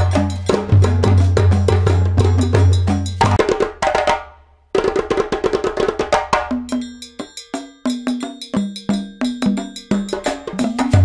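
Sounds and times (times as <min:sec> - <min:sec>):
fast percussion music: 0:00.0 - 0:11.0.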